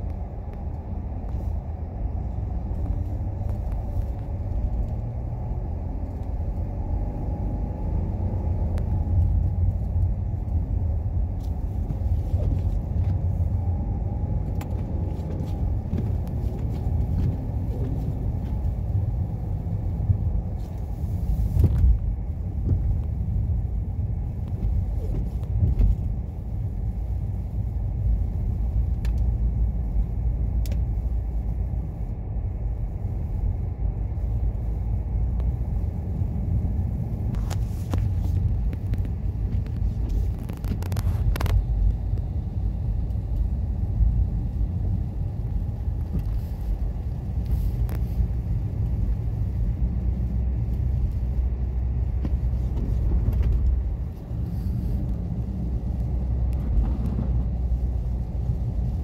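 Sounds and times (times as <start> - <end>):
car driving on snow: 0.0 - 59.0.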